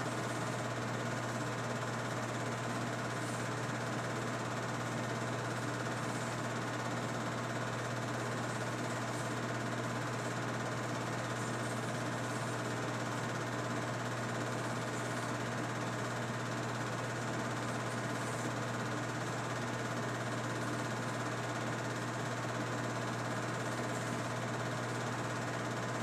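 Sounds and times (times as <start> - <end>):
film projector whirring: 0.0 - 26.0.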